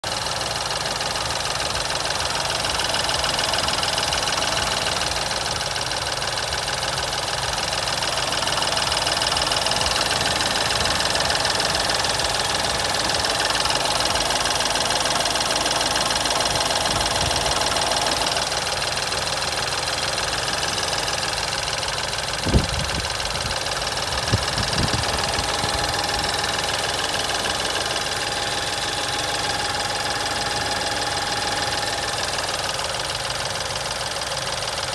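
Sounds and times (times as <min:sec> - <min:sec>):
car engine rattling clatter: 0:00.0 - 0:34.9.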